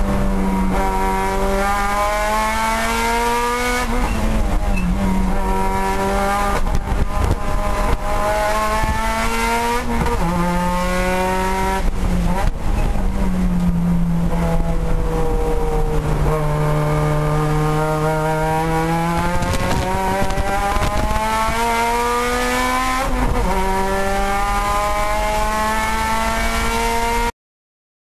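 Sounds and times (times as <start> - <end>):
car engine at full throttle: 0.0 - 27.3.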